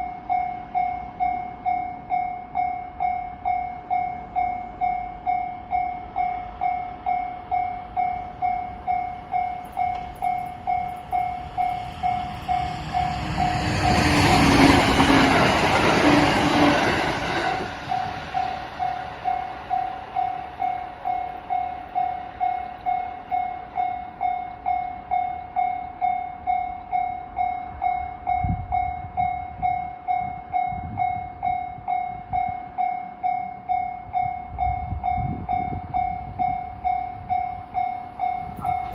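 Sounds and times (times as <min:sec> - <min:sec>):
railroad crossing bell ringing: 0:00.0 - 0:38.9
train passing: 0:00.0 - 0:38.9.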